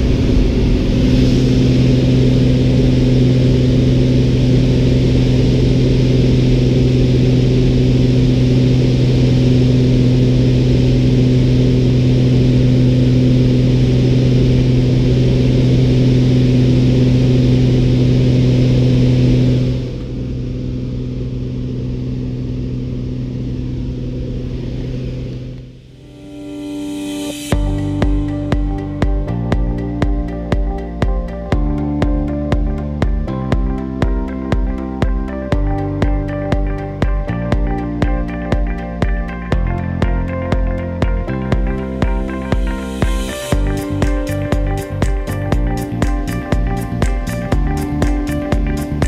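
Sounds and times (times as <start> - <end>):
light aircraft engine droning: 0.0 - 49.0.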